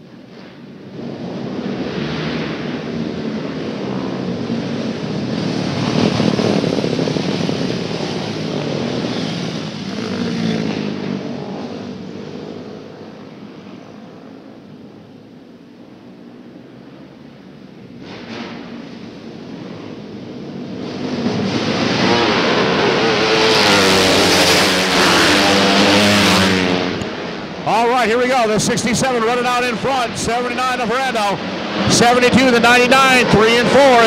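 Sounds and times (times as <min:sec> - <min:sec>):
kart engines passing: 0:00.2 - 0:34.0.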